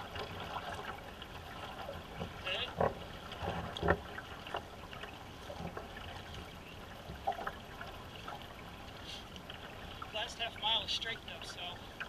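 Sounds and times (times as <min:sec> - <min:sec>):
paddles pulling through water: 0:00.0 - 0:12.0
water washing along hull: 0:00.0 - 0:12.0.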